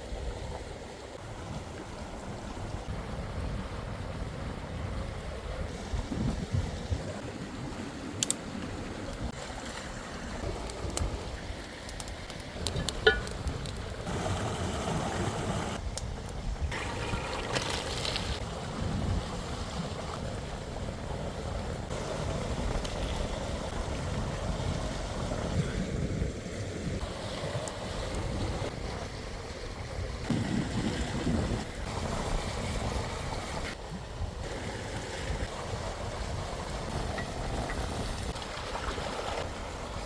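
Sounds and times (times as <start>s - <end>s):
wind buffeting microphone: 1.2s - 9.4s, 10.4s - 40.0s.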